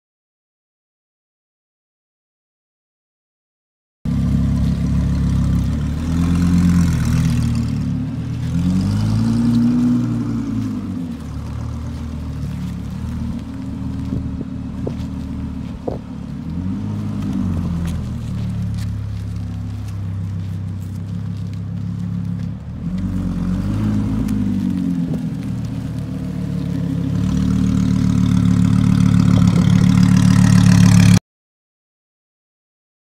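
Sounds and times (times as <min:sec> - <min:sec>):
car engine revving: 0:04.1 - 0:31.2.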